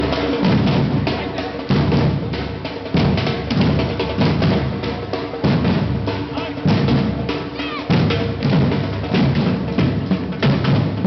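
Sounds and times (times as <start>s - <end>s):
heavy bass drum strokes: 0.0s - 11.0s.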